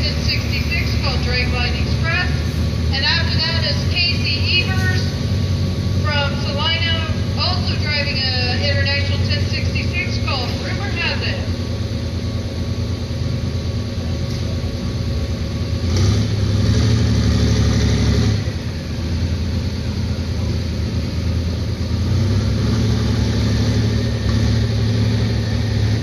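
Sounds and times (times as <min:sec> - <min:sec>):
tractor engine revving: 0:00.0 - 0:26.0.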